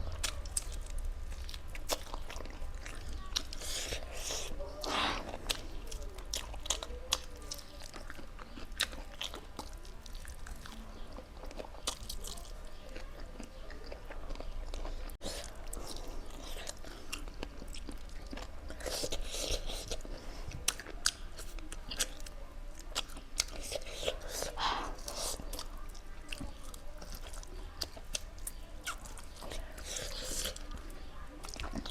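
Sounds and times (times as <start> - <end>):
wet chewing of meat: 0.0 - 31.9.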